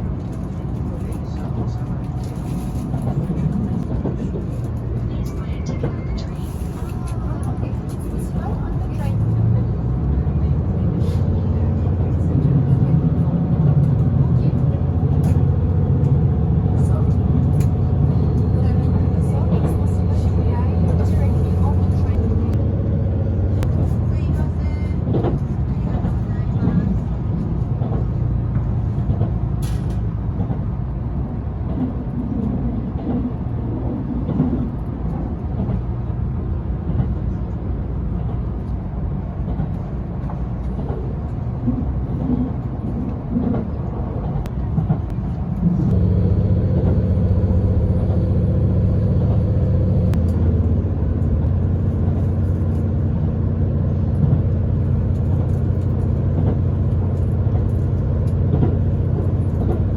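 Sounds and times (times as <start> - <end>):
train engine drone: 0.0 - 59.9
train wheels rumbling on rail: 0.0 - 59.9.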